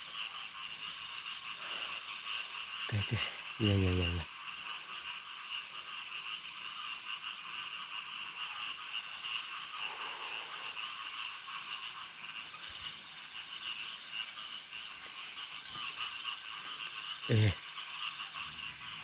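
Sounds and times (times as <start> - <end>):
frogs and insects trilling: 0.0 - 19.0.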